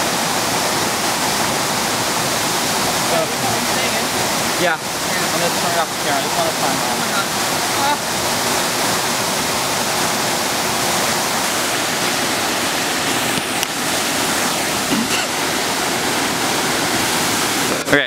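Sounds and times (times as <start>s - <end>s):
waterfall rushing into a pool: 0.0s - 18.0s.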